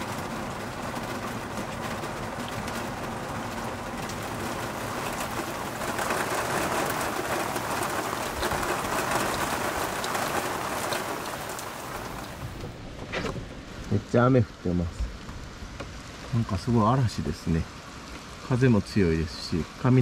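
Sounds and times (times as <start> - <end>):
heavy rain in wind: 0.0 - 20.0.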